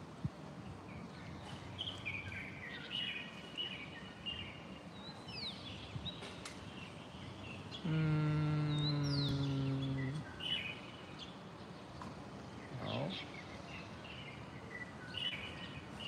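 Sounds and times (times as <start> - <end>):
outdoor background noise: 0.0 - 16.0
small birds chirping: 0.6 - 16.0.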